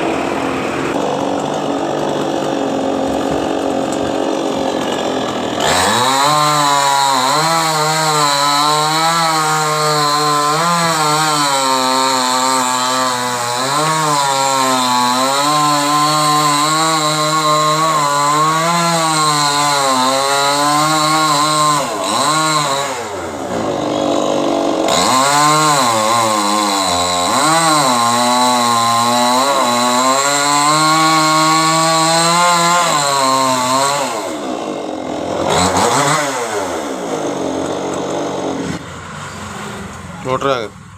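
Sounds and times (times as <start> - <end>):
chainsaw cutting wood: 0.0 - 40.5.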